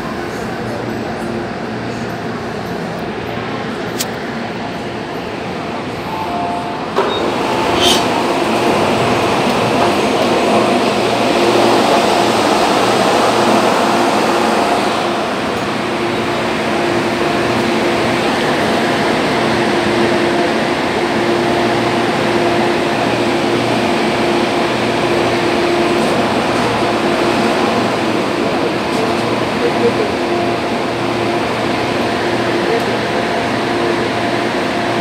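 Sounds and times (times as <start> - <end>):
train carriage hum: 0.0 - 35.0.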